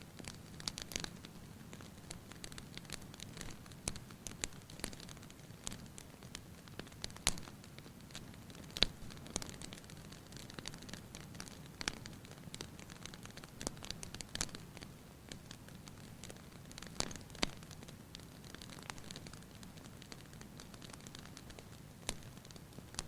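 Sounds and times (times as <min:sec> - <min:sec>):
wood fire crackling and popping: 0:00.1 - 0:23.0.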